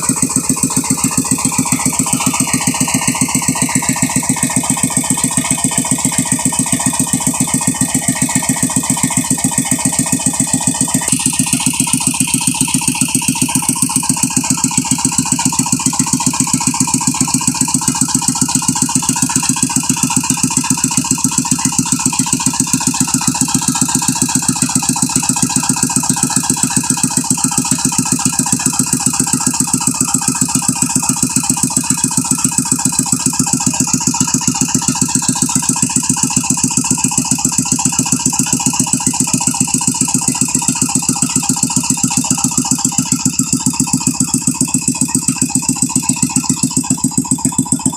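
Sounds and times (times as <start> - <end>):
brick-making machine running: 0.0 - 47.9.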